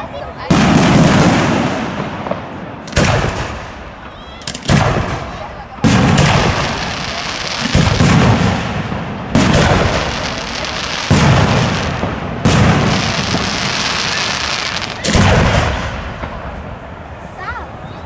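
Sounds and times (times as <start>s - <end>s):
firework shells booming: 0.4s - 17.0s.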